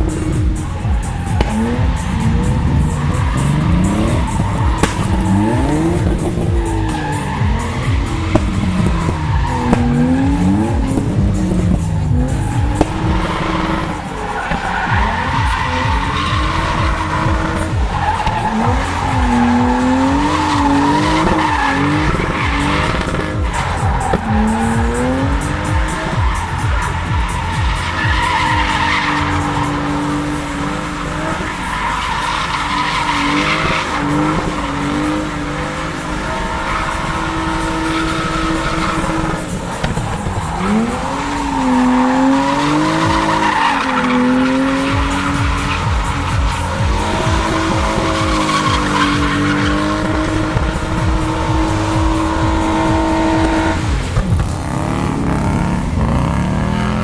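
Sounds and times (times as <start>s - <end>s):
car engine revving: 0.0s - 57.0s
tyres squealing: 0.0s - 57.0s.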